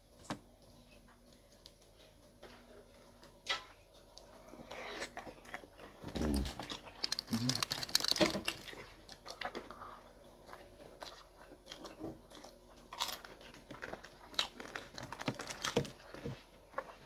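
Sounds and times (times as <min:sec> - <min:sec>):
chewing crunchy fried food: 0:00.7 - 0:17.0.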